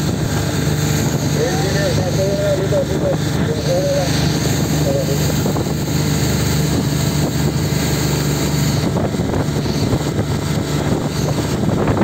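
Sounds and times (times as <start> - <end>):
boat engine running: 0.0 - 12.0
water noise: 0.0 - 12.0
wind buffeting microphone: 0.0 - 12.0.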